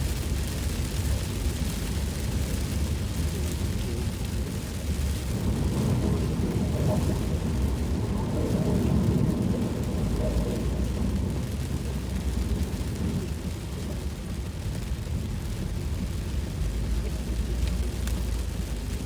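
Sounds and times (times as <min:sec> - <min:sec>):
rain on a car: 0:00.0 - 0:19.0
road and engine rumble: 0:00.0 - 0:19.0.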